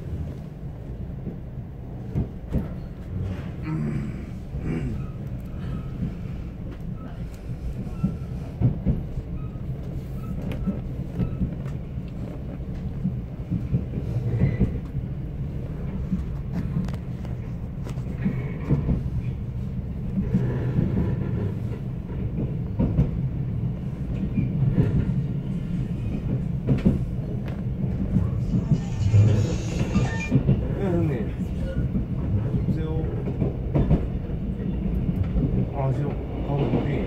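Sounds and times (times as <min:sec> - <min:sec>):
train rumbling on rails: 0:00.0 - 0:37.0.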